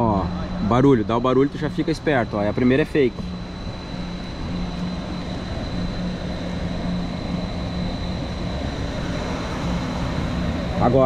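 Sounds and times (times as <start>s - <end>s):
wave machinery rushing and humming: 0.0s - 11.0s.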